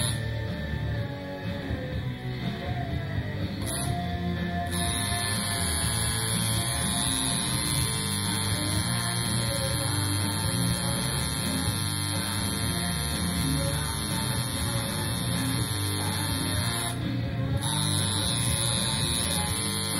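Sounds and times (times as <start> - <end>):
tattoo machine buzzing: 0.0 - 0.6, 3.6 - 19.9
background music: 0.0 - 19.9.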